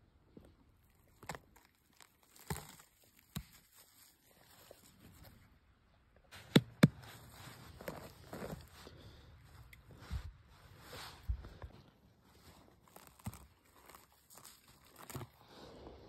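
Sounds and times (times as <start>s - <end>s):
soft crackles: 0.1s - 16.0s
hand rustling through pine needles: 0.8s - 5.6s, 6.3s - 16.0s.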